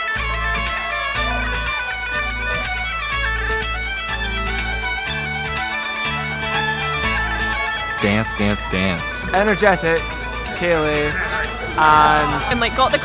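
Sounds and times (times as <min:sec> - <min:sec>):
bagpipes playing folk tune: 0:00.0 - 0:13.0.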